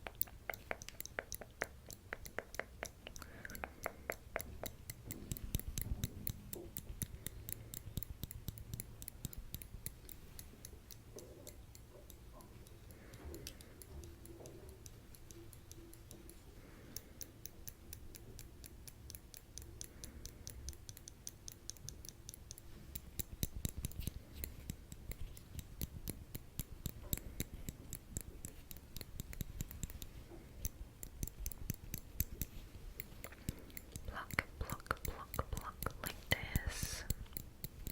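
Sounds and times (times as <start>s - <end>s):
metal tweezers clicking: 0.0s - 37.9s.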